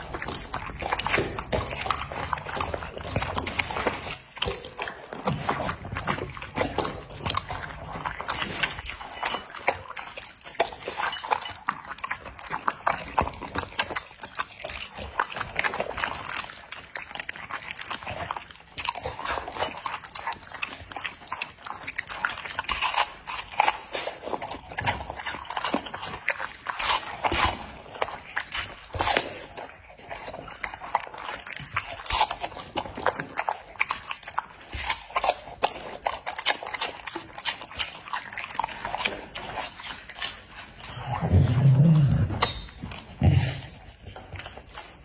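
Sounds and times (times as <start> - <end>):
dogs chewing and crunching: 0.0 - 45.0
teeth clicking against bowl: 0.0 - 45.0.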